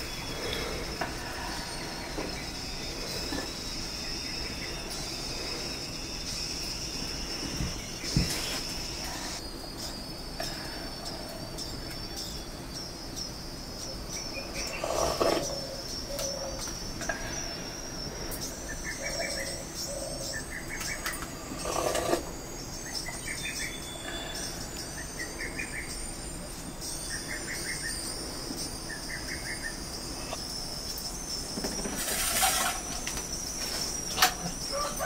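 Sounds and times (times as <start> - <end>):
insect drone: 0.0 - 35.0.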